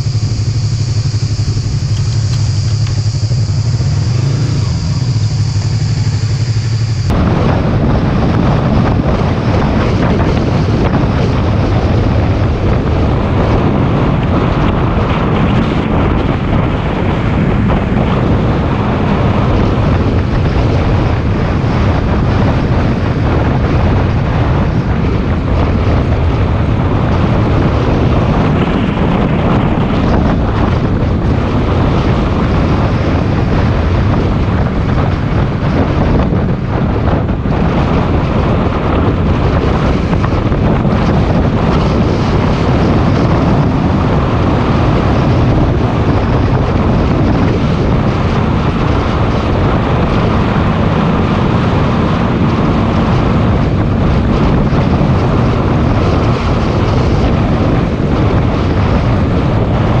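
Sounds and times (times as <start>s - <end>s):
motorcycle engine drone: 0.0s - 60.0s
wind rush on microphone: 0.0s - 60.0s.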